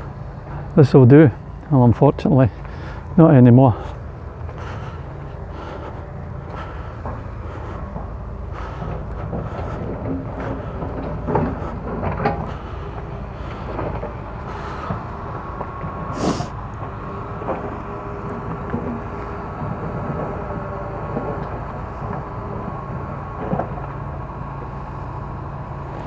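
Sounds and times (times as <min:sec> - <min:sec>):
construction machinery rumbling: 0:00.0 - 0:26.0.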